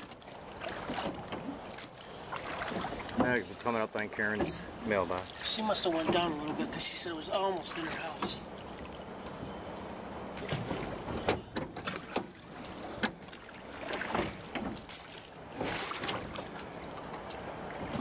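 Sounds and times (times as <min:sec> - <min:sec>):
paddle strokes: 0:00.0 - 0:18.0
water splashing around boat: 0:00.0 - 0:18.0.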